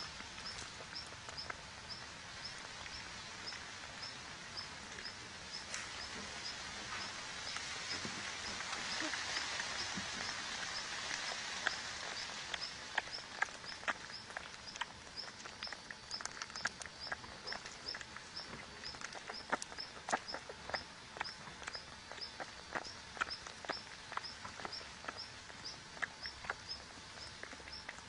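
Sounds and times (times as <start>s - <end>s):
light ticks and rustles on leaves: 0.0s - 28.0s.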